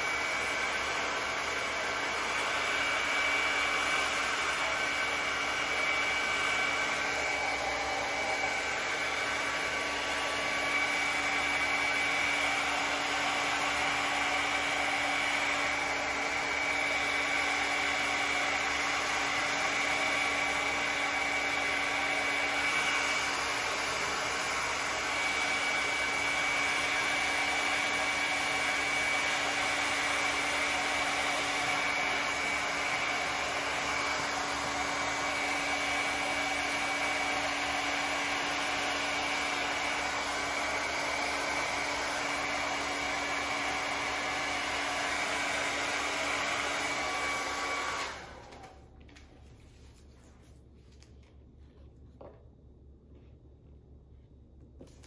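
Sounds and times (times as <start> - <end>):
hair dryer running: 0.0 - 49.7.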